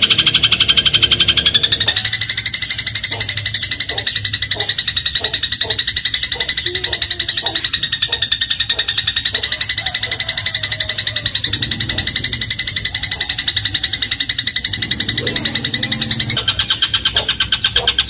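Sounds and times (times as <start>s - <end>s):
sparrow trilling: 0.0s - 18.0s.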